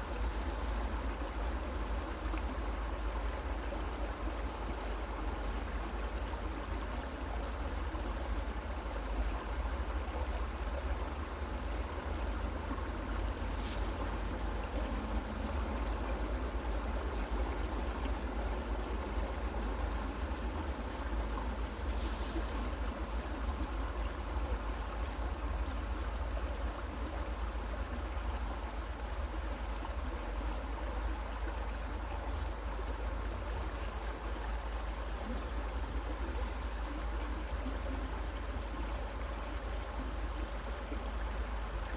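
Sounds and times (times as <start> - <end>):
creek water flowing over stones: 0.0 - 41.9.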